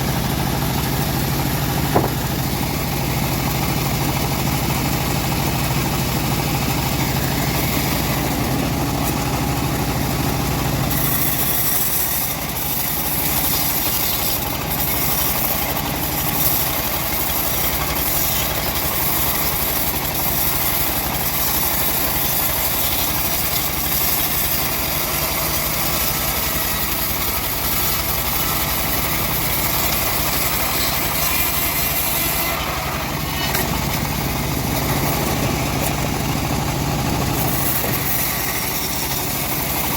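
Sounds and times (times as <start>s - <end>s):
blade sawing through log: 0.0s - 39.9s
sawmill engine hum: 0.0s - 39.9s.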